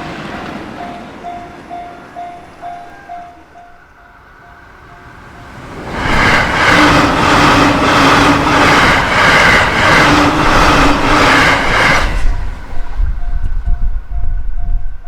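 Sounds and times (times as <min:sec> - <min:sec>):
train rushing rumble: 0:00.0 - 0:15.0.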